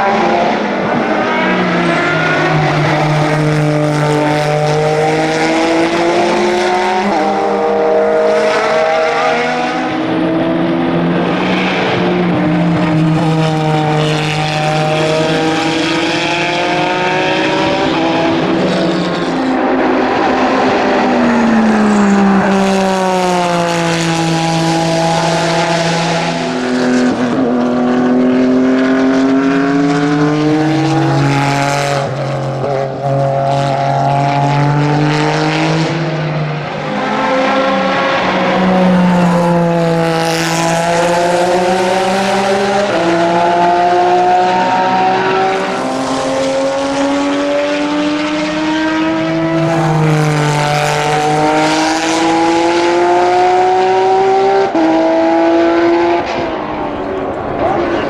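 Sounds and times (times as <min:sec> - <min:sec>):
race car engine with gear changes: 0:00.0 - 0:58.0.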